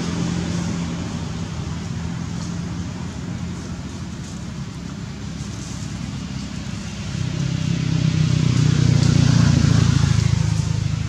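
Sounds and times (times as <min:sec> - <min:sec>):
motor engine running: 0:00.0 - 0:11.0.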